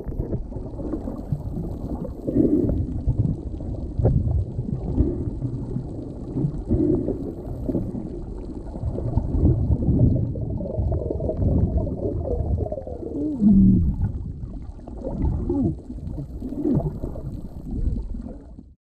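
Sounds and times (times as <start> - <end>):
underwater rumble with gurgling: 0.0 - 18.8.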